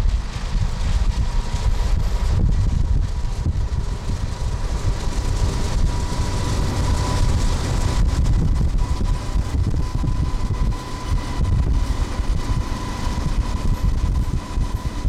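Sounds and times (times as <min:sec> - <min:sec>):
faint high whine: 0:00.0 - 0:15.0
road rumble: 0:00.0 - 0:15.0
wind buffeting microphone: 0:00.0 - 0:15.0.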